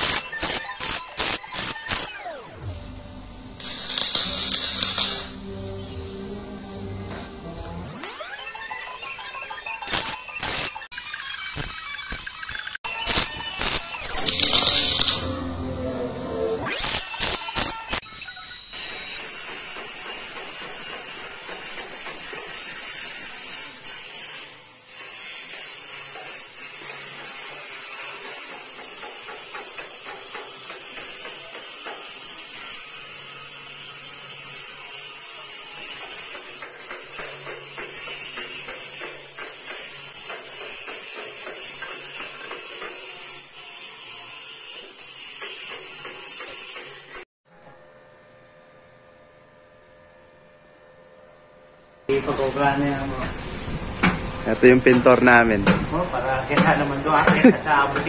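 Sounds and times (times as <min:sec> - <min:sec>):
welding arc sizzling: 0:00.0 - 0:02.7, 0:03.6 - 0:05.4, 0:07.9 - 0:15.2, 0:16.6 - 0:47.3, 0:52.1 - 0:58.0.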